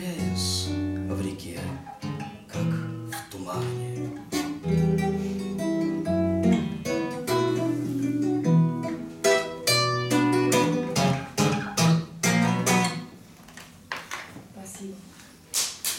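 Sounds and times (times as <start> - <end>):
strummed guitar chords: 0.0 - 13.1
acoustic guitar picked melody: 0.0 - 13.2.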